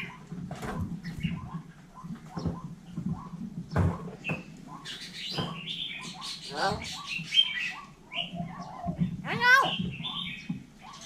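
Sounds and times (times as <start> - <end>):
bird chirping softly: 0.0 - 11.0.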